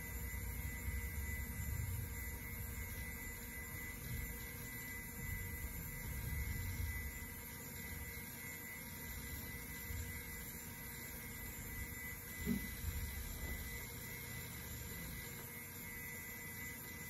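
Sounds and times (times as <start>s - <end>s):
computer fans and hard drive whine: 0.0s - 17.0s.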